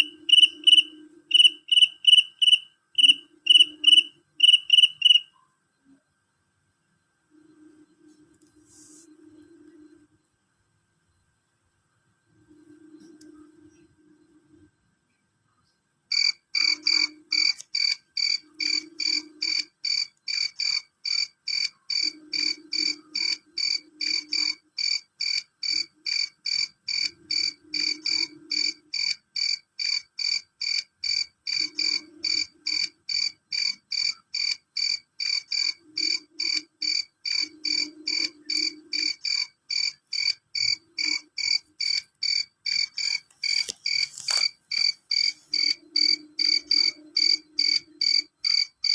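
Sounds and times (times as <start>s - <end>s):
cricket chirping: 0.0s - 6.0s, 12.2s - 14.8s, 16.1s - 48.9s.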